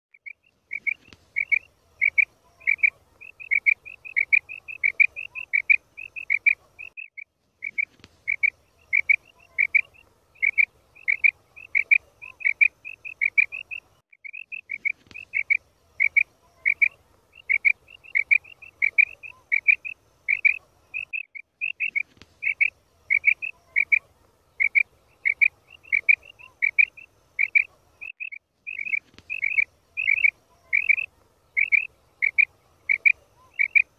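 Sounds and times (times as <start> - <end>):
quail lure call: 0.2 - 33.9.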